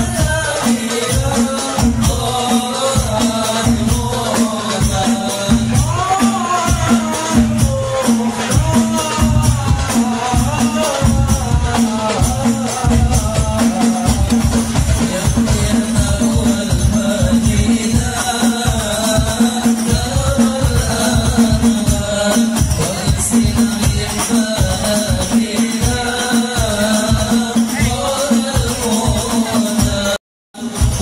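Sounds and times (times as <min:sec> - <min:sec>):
frame drums beating: 0:00.0 - 0:31.0
men singing: 0:00.0 - 0:31.0.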